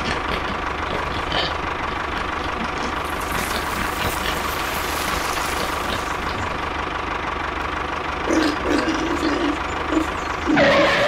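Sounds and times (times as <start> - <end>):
model tractor engine drone: 0.0 - 11.0.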